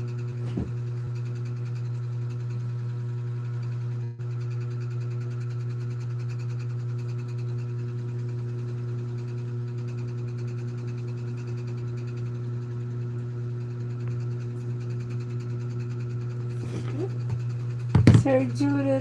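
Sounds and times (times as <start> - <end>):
small motor humming and buzzing: 0.0 - 19.0.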